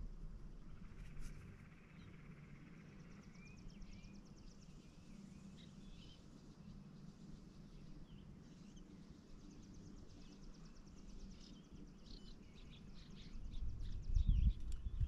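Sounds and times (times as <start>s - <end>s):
faint songbird chirps and trill: 0.0s - 15.0s.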